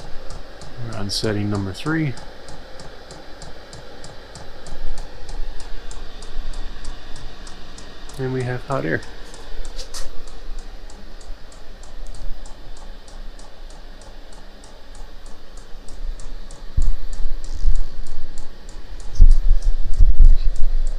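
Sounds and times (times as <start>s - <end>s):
fuel pump ticking: 0.0s - 20.0s
diesel air heater running: 0.0s - 20.9s.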